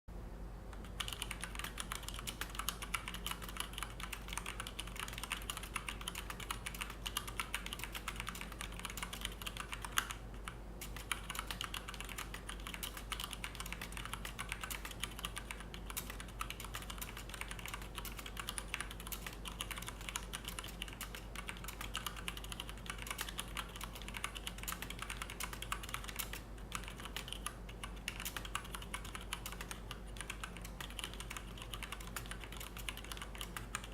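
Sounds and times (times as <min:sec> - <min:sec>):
fast mechanical keyboard typing: 0:00.8 - 0:33.9.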